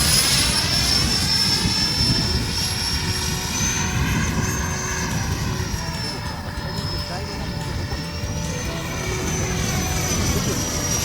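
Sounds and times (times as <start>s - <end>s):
high-pitched fan whine: 0.0s - 11.0s
low rumbling noise: 0.0s - 11.0s.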